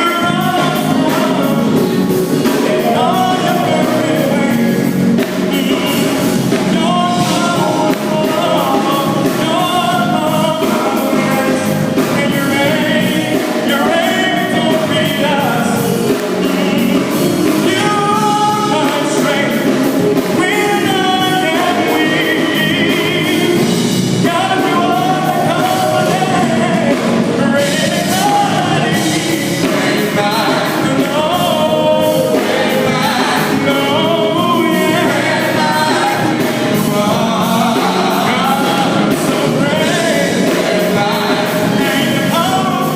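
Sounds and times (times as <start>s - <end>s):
full band playing: 0.0s - 42.9s
person singing gospel: 0.0s - 42.9s.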